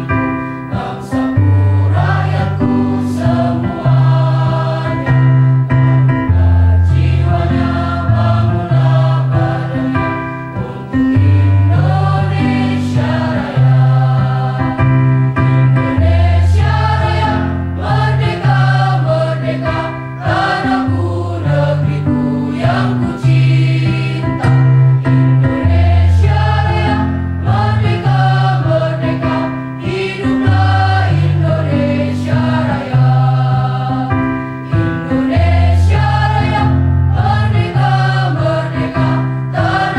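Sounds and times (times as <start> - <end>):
female choir singing: 0.0 - 5.3, 6.3 - 15.0, 15.8 - 39.9.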